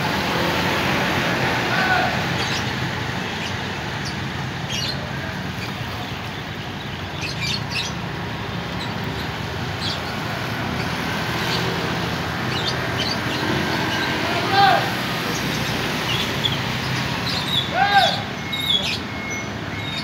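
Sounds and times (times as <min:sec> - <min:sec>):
birds chirping: 0:00.3 - 0:20.0.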